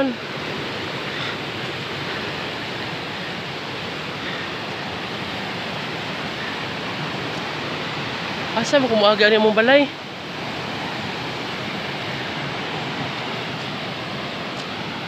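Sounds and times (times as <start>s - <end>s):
flood water rushing over boulders: 0.0s - 15.0s.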